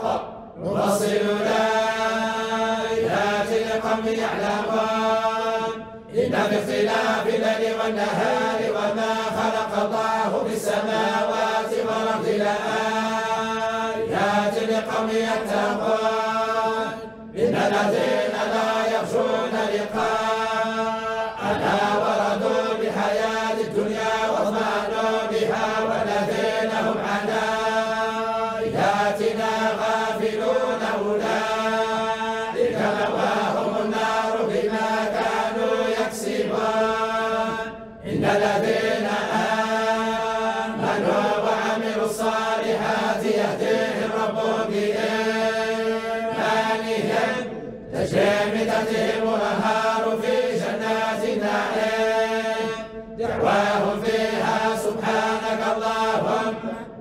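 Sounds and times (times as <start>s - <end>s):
men chanting in unison: 0.0s - 57.0s.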